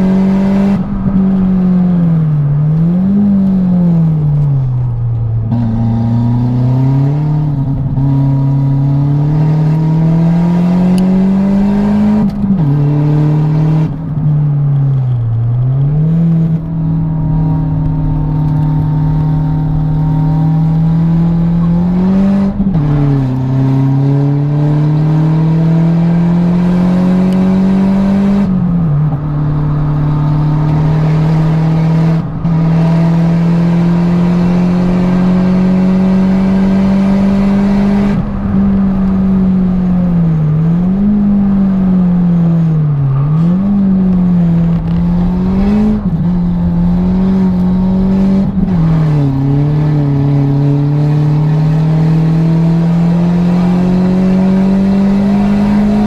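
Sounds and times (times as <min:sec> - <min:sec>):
car engine revving from inside cabin: 0:00.0 - 0:14.3, 0:14.9 - 0:56.0.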